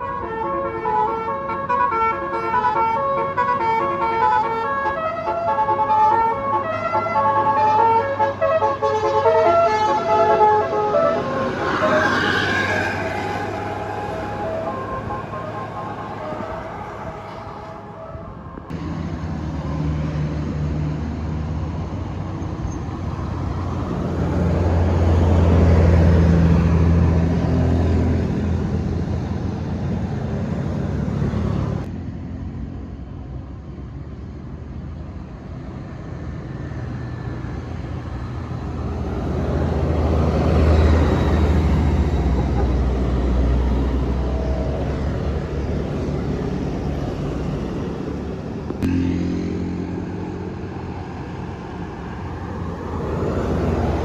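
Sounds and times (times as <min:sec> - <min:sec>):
buses driving past: 0:00.0 - 0:54.0.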